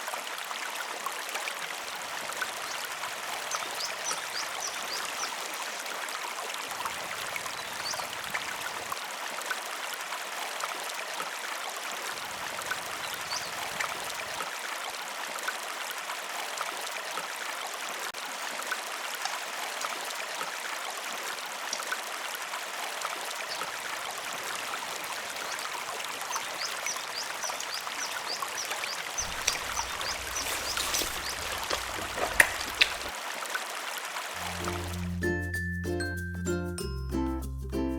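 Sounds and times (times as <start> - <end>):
river water flowing: 0.0 - 35.6.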